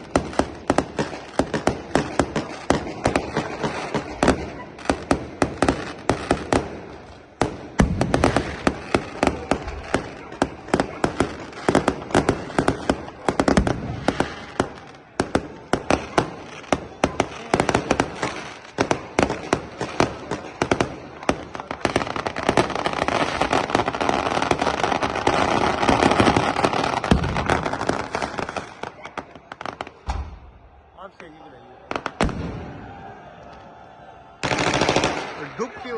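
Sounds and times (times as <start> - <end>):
fireworks bangs and crackles: 0.0 - 30.8, 31.8 - 33.7, 34.4 - 35.9.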